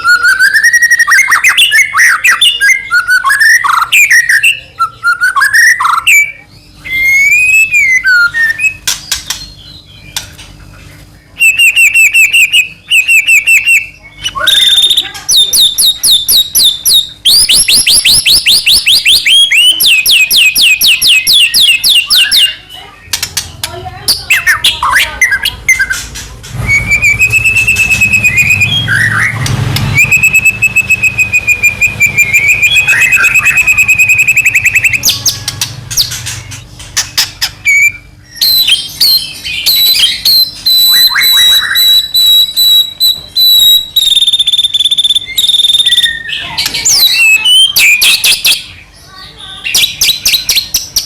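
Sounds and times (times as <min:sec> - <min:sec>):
bird singing whistles and trills: 0:00.0 - 0:10.3, 0:11.2 - 0:23.3, 0:26.6 - 0:51.0.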